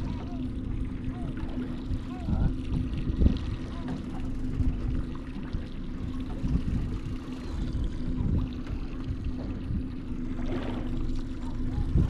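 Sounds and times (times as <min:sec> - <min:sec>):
steady low hum: 0:00.0 - 0:12.0
wind and water rumble: 0:00.0 - 0:12.0.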